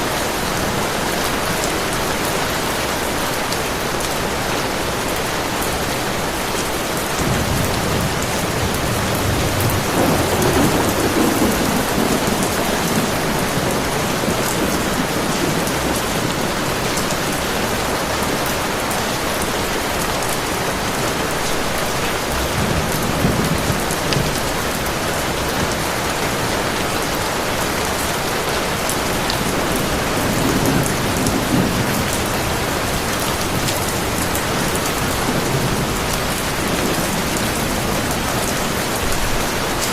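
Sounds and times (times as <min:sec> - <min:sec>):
heavy rain falling: 0:00.0 - 0:39.9
thunder rumbling: 0:06.9 - 0:39.8.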